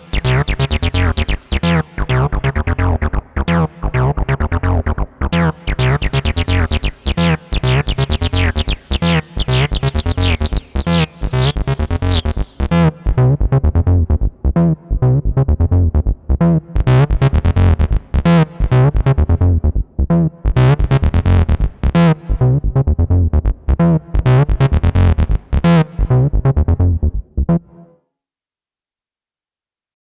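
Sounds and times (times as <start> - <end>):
acid synth bassline: 0.0 - 16.1, 16.8 - 19.8, 20.6 - 27.2.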